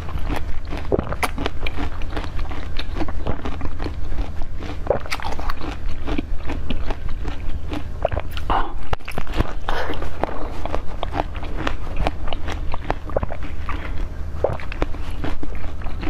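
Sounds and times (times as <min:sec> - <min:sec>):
ice crunching while chewing: 0:00.0 - 0:16.0
low steady hum: 0:00.0 - 0:16.0.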